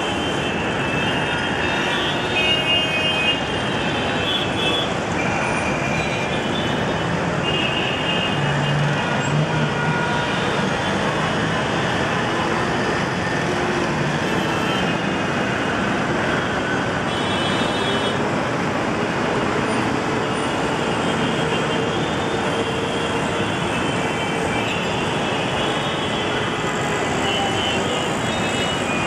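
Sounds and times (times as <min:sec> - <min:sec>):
busy road traffic: 0:00.0 - 0:29.0.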